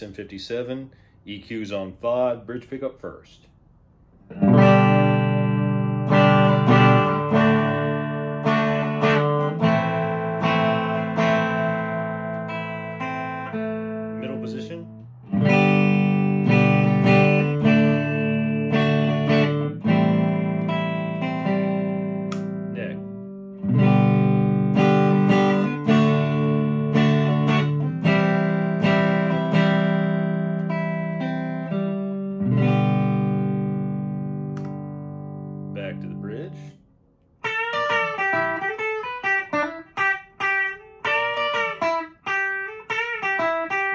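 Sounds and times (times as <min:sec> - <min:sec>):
electric guitar strummed chords: 0:04.3 - 0:36.7, 0:37.4 - 0:43.9.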